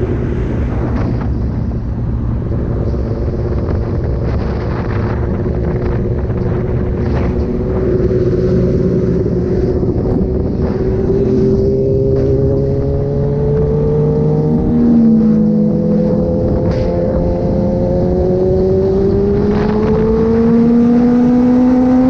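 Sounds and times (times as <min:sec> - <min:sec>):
motorcycle engine riding: 0:00.0 - 0:22.0
wind noise on microphone: 0:00.0 - 0:22.0.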